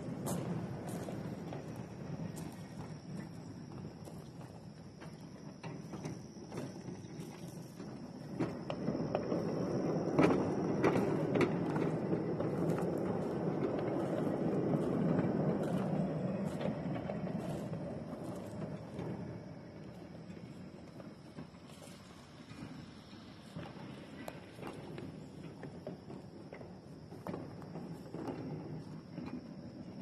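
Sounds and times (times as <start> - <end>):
rolling rumble: 0.0 - 30.0
steel wheels clicking over rail joints: 0.0 - 30.0.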